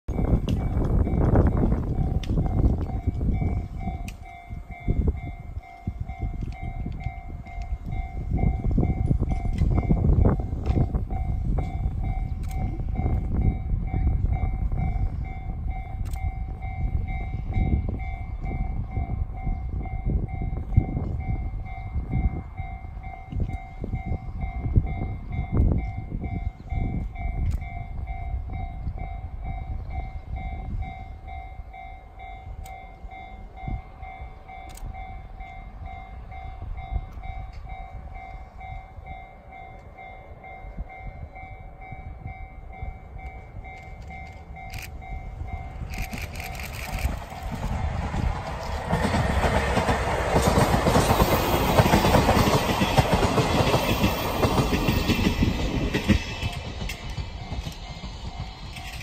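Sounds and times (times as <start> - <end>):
wind buffeting microphone: 0.1 - 59.0.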